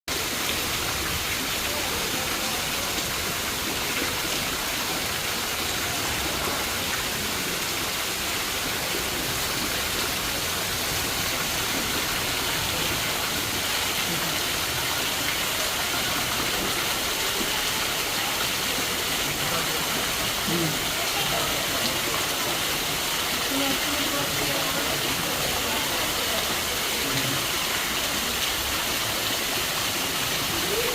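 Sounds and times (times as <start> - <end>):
heavy rain falling: 0.1 - 30.9.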